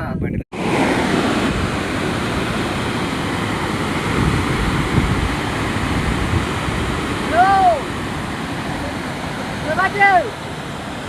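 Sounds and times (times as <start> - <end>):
waterfall rushing: 0.6 - 11.0.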